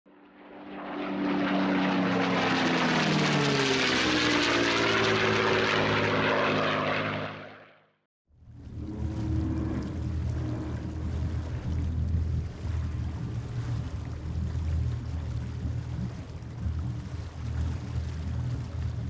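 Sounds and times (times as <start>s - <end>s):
propeller aircraft engine drone: 0.1s - 19.0s.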